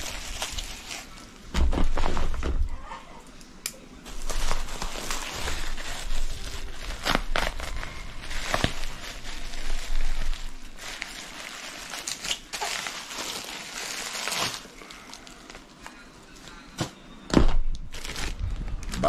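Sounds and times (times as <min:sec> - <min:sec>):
packaging crinkling and rustling: 0:00.0 - 0:02.5, 0:04.0 - 0:16.1, 0:17.8 - 0:19.0.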